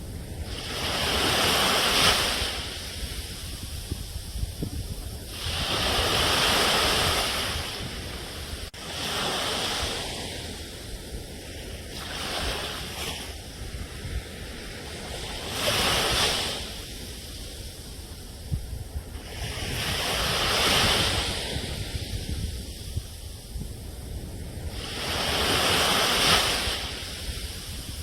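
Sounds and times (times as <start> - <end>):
low rumble of surf: 0.0 - 28.0
sea waves breaking on shore: 0.0 - 28.0.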